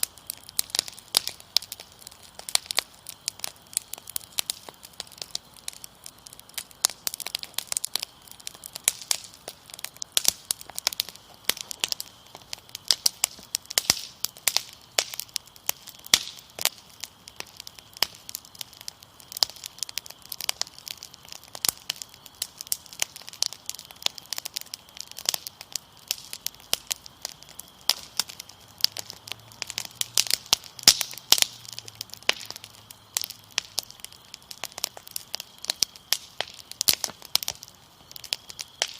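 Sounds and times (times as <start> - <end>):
cricket trill: 0.0 - 38.9
wood fire crackling and popping: 0.0 - 38.9.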